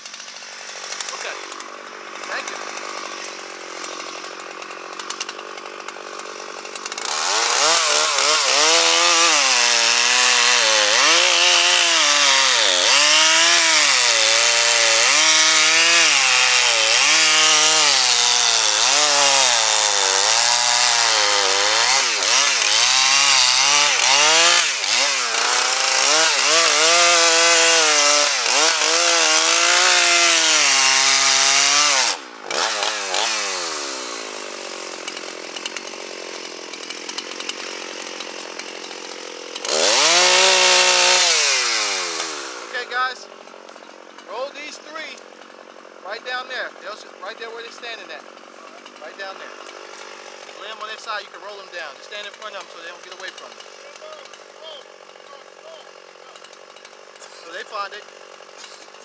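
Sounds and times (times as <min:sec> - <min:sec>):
chainsaw cutting a log: 0:00.0 - 0:59.0.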